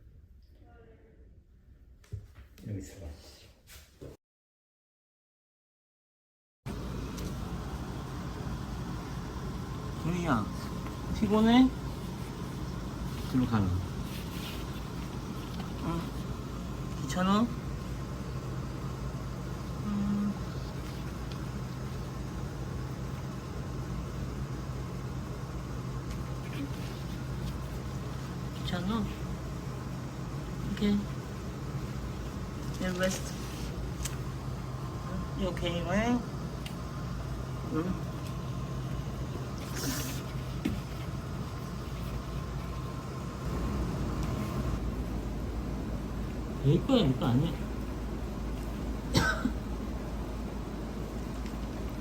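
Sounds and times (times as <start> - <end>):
low mechanical hum: 6.7 - 52.0.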